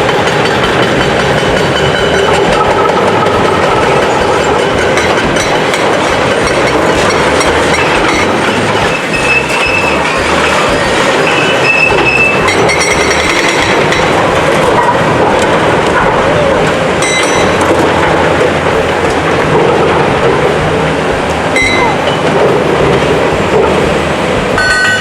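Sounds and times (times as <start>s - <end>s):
heavy construction machinery running: 0.0s - 25.0s
high-pitched squeals: 0.0s - 25.0s.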